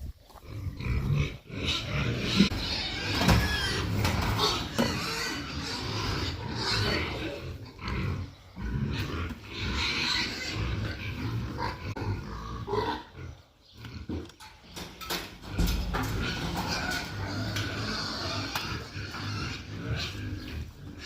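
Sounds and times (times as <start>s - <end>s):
pigs grunting: 0.3s - 21.0s.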